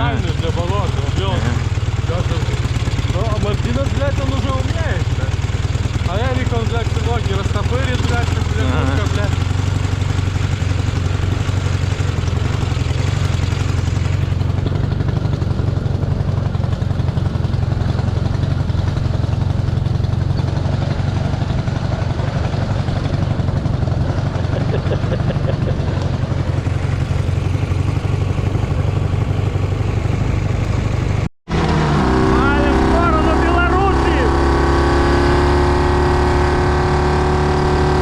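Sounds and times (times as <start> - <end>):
motorcycle engine droning: 0.0 - 38.0.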